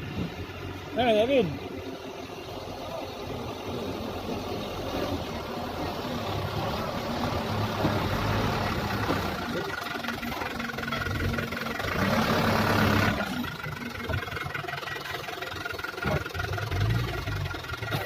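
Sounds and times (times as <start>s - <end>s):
dump truck diesel engine running: 0.0s - 18.0s.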